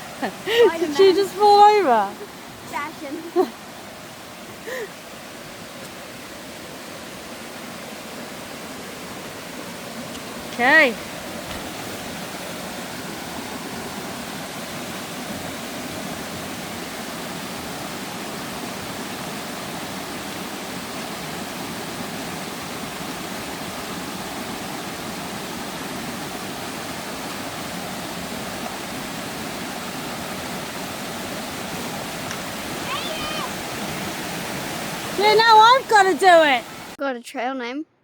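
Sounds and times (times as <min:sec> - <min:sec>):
river running: 0:00.0 - 0:37.0.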